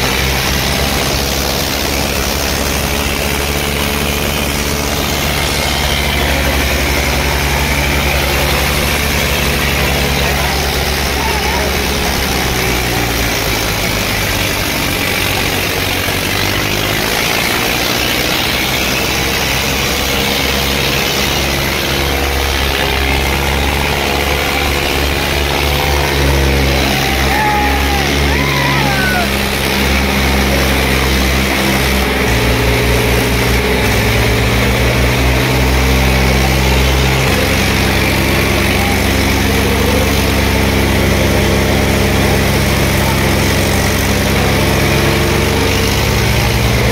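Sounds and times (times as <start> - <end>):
crowd voices: 0.0 - 46.9
diesel tractor engines running: 0.0 - 46.9.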